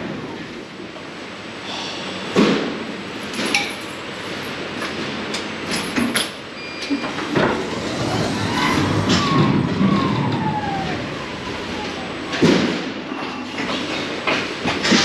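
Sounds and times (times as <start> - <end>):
pallet truck rumbling rattle: 2.4 - 15.0.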